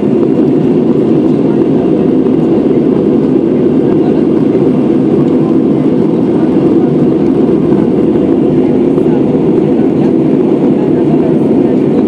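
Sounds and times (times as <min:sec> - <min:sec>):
jet engines roaring in cabin: 0:00.0 - 0:12.0.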